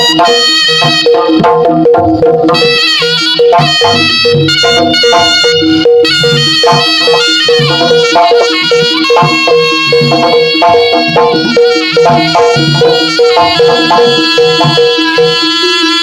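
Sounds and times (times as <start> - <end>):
gongs and drums beating: 0.0 - 16.0
reed shawm melody: 0.0 - 16.0.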